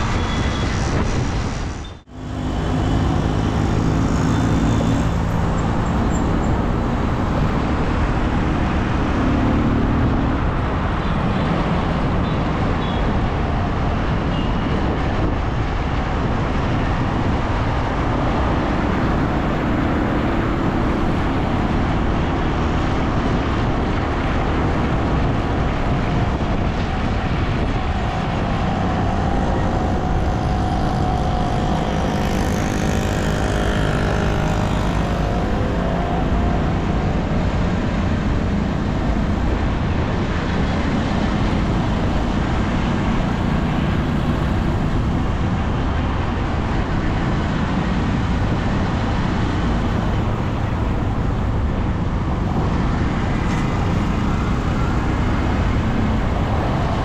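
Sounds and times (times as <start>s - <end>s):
vehicle engines humming: 0.0s - 57.0s
wind and road noise: 0.0s - 57.0s.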